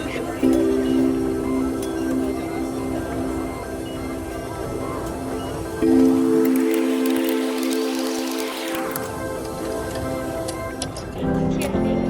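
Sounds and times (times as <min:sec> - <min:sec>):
background music sustained chords: 0:00.0 - 0:12.0.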